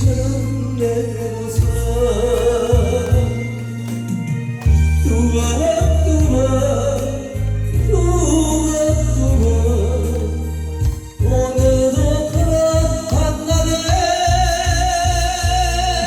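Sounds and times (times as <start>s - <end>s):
loud backing track with bass: 0.0s - 16.0s
person singing: 0.0s - 16.0s.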